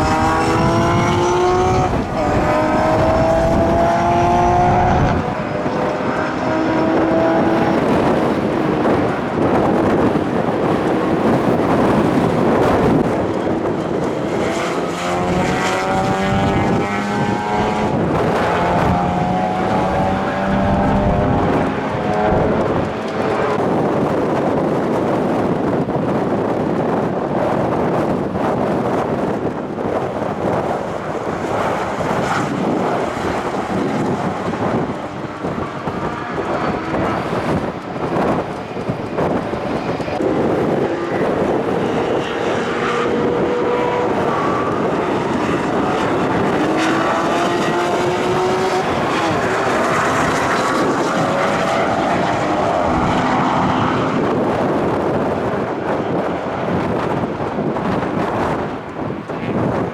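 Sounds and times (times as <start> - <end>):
engine accelerating hard: 0.0 - 59.9
rush of wind noise: 0.0 - 59.9.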